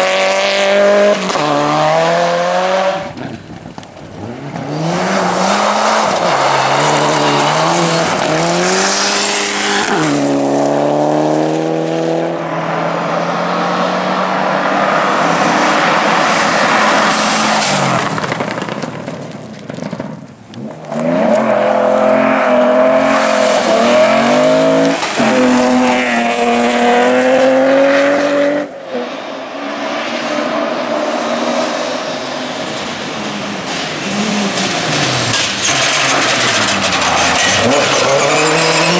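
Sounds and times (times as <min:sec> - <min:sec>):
rally car engines at full throttle: 0:00.0 - 0:38.9
tyre and road noise: 0:00.0 - 0:38.9.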